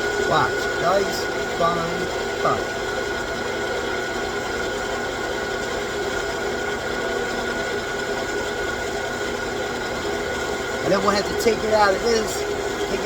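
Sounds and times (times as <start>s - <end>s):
lathe humming with high whine: 0.0s - 13.0s.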